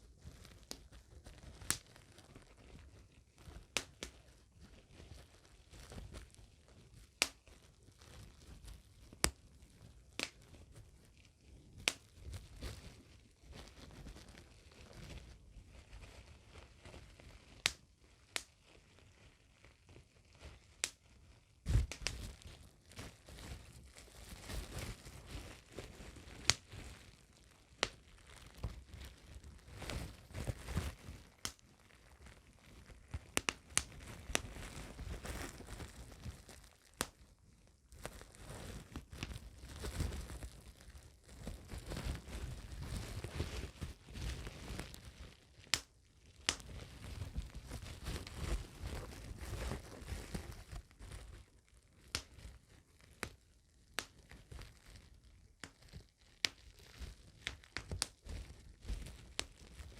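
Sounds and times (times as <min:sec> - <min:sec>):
bubble wrap crinkling: 0:00.0 - 0:59.9
bubble wrap pops: 0:00.0 - 0:59.9.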